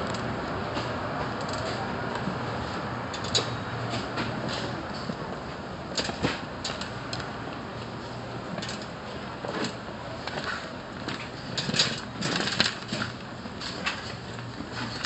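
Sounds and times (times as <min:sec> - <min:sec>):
cart clicks and rattles: 0:00.0 - 0:15.0
shopping cart rolling on tiles: 0:00.0 - 0:15.0.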